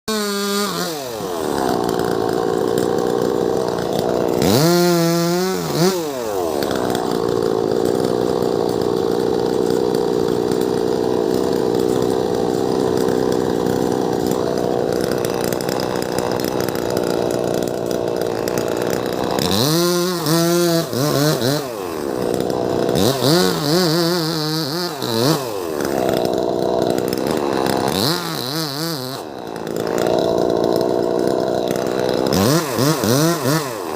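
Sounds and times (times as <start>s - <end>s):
chainsaw cutting tree trunk: 0.1s - 33.9s.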